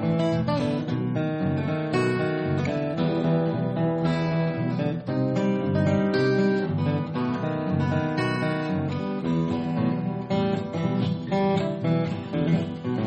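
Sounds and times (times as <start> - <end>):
acoustic guitar strumming: 0.0 - 13.0
plucked acoustic strings: 0.0 - 13.0.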